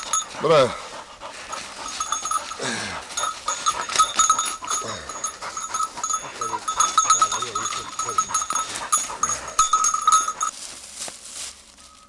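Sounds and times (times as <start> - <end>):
dog collar bell jingling: 0.0 - 10.6.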